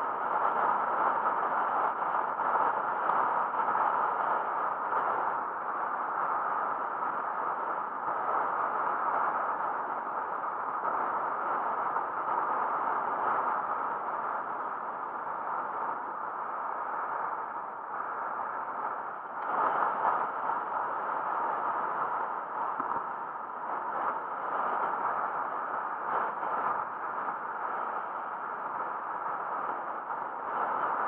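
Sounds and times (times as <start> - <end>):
rushing wind: 0.0 - 31.0.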